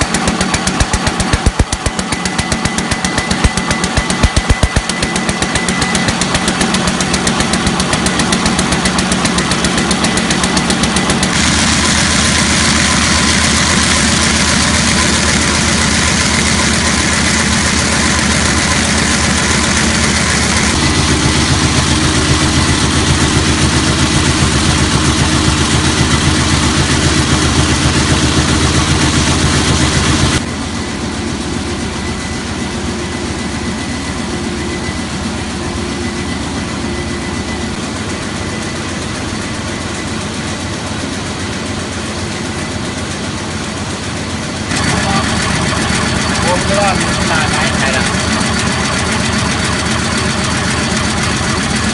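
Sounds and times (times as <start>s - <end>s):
machine rapid mechanical clatter: 0.0s - 30.5s, 38.0s - 51.9s
paper slitting machine running: 0.0s - 30.5s, 37.0s - 51.9s.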